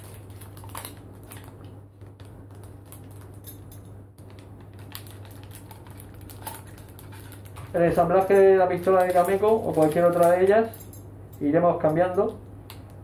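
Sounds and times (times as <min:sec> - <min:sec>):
small objects clicking and tapping: 0:00.0 - 0:11.0
low room hum: 0:00.0 - 0:13.0.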